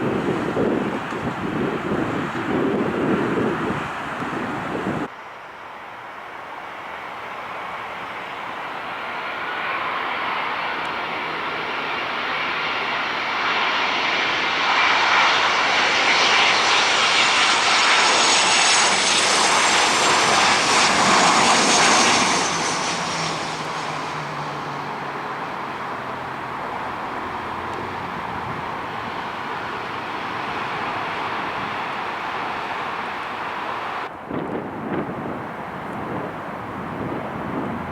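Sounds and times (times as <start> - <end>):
jet airliner passing: 0.0 - 37.9.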